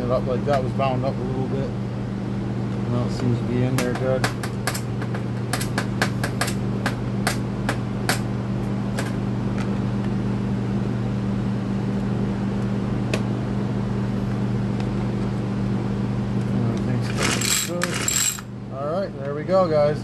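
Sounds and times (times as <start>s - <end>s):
electric fan hum: 0.0s - 20.0s.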